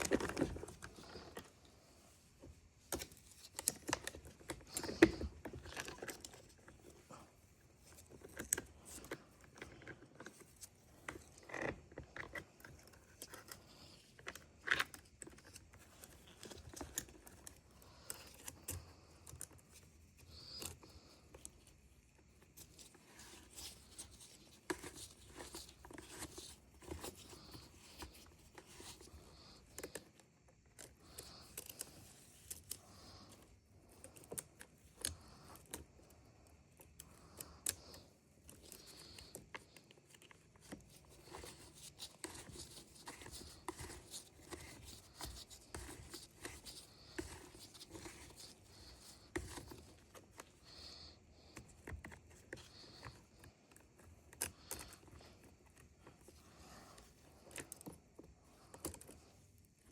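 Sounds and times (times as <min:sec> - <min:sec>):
rustling: 0:00.0 - 0:59.5.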